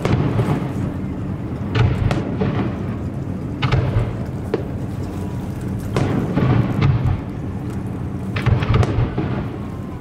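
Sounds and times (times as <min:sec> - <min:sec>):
fireworks bangs: 0:00.0 - 0:05.0, 0:05.9 - 0:07.6, 0:08.3 - 0:10.0.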